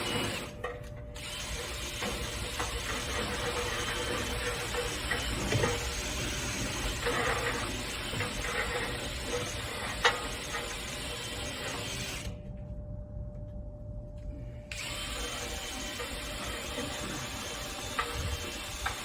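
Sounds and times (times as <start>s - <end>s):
power drill spinning brush: 0.0s - 0.5s, 1.2s - 12.3s, 14.7s - 19.0s.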